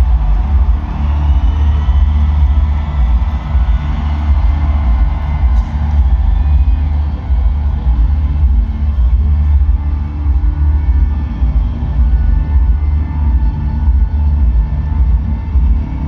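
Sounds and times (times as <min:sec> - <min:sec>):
bass and kick drum rumble: 0:00.0 - 0:16.0.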